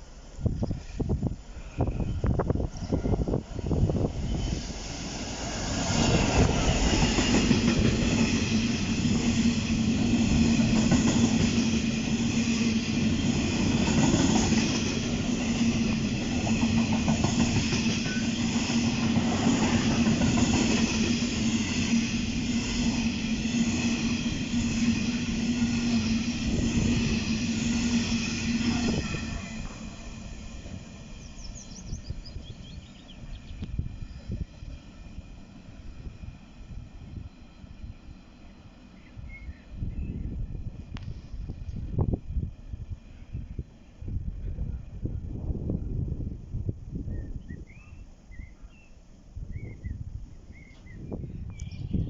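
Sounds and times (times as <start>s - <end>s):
train wheels rumbling on rails: 0.0s - 46.8s.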